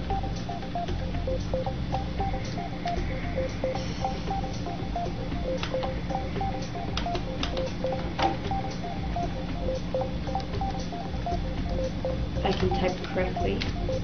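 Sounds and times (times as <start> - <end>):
ticking two-note music: 0.0 - 14.0
laptop keys typing: 2.2 - 14.0.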